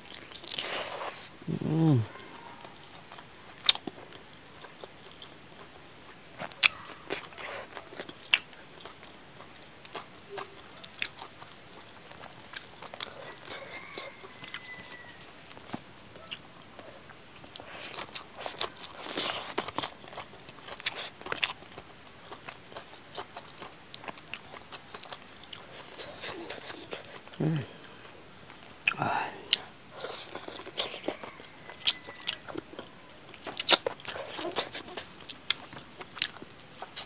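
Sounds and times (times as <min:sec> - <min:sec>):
chewing and lip-smacking: 0:00.0 - 0:01.3, 0:02.0 - 0:37.0.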